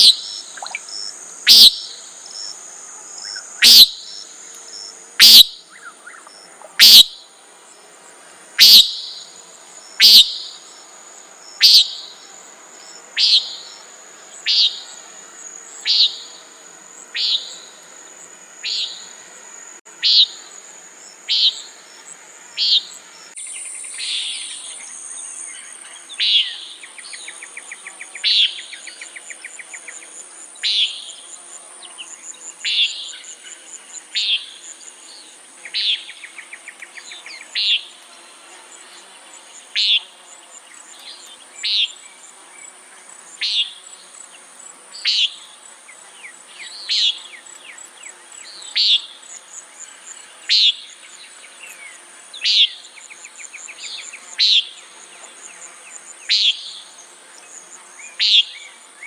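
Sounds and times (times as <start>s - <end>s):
bird buzzy calls: 0.0s - 31.3s, 31.9s - 59.0s
high insect drone: 0.0s - 59.0s.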